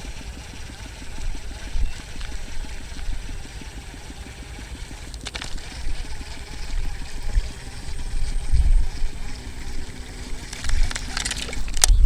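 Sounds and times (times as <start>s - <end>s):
short rattling burst: 0.0s - 12.0s
small engine running: 0.0s - 12.0s
wind on microphone: 0.0s - 12.0s.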